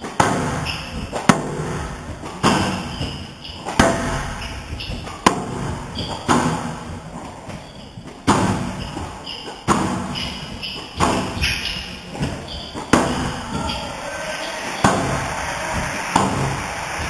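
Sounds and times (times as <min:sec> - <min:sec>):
squash ball cracks on rackets and walls: 0:00.0 - 0:13.8, 0:14.7 - 0:17.0.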